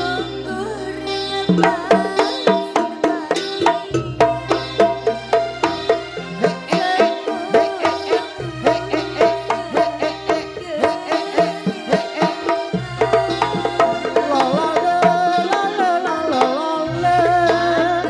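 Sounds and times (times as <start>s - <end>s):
hand drums: 0.0s - 18.0s
ringing metal percussion: 0.0s - 18.0s
wavering melody line: 0.0s - 18.0s.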